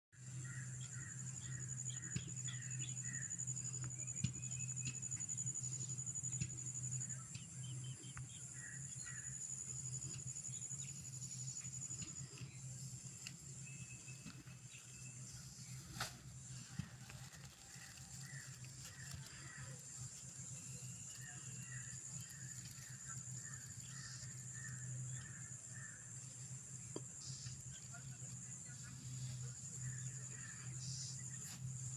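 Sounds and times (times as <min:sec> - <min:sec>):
low steady hum: 0:00.2 - 0:31.9
birds chirping: 0:00.3 - 0:31.9.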